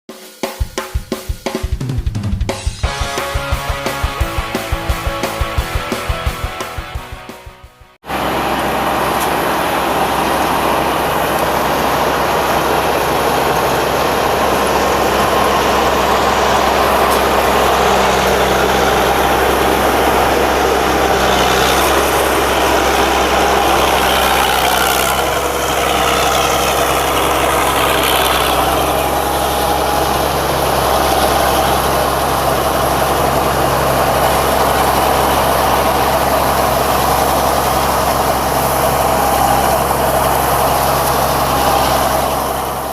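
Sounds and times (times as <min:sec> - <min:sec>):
diesel engine droning: 0:02.1 - 0:42.9.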